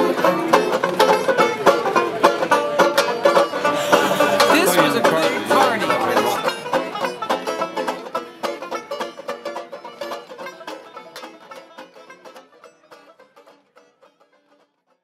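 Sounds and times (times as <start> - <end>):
fast picked banjo: 0.0 - 15.0.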